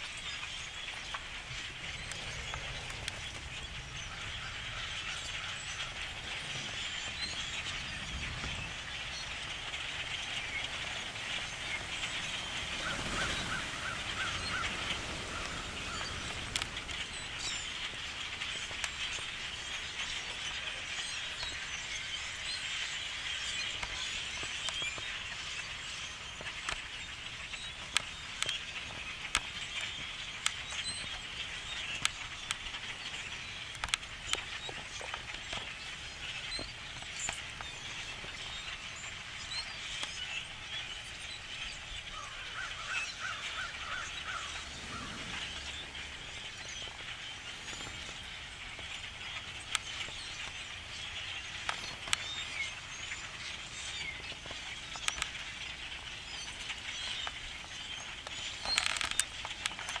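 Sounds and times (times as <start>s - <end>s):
flock of blackbirds chattering: 0.0s - 60.0s.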